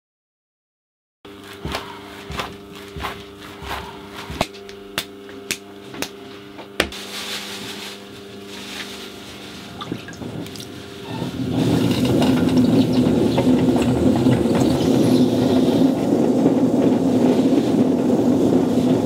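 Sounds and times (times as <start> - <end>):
steady low hum: 1.3 - 19.0.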